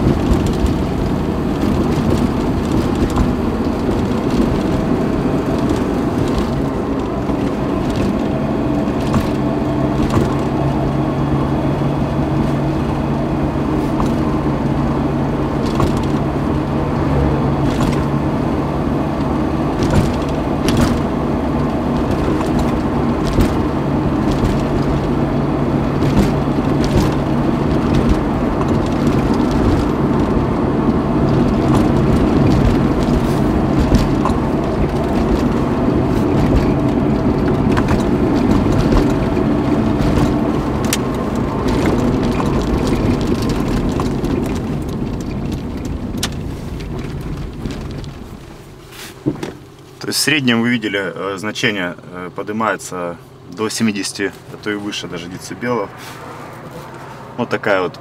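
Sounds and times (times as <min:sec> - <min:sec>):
rattling body panels: 0:00.0 - 0:51.8, 0:52.7 - 0:58.0
car engine running: 0:00.0 - 0:58.0
tyres on asphalt: 0:00.0 - 0:58.0.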